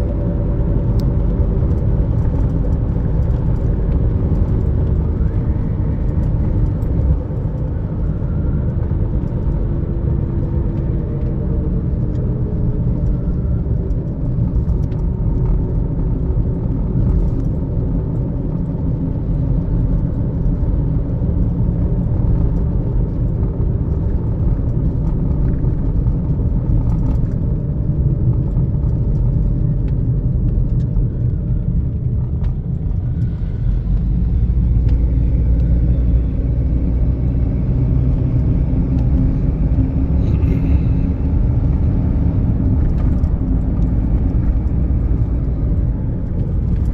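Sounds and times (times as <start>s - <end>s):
car engine rumble: 0.0s - 46.9s
road noise inside a car: 0.0s - 46.9s.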